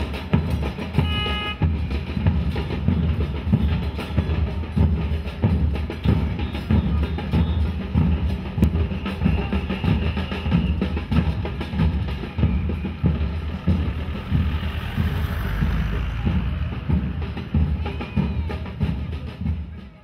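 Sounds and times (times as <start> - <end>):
bass drum beat: 0.0 - 20.0
rhythmic drumming: 0.0 - 20.0.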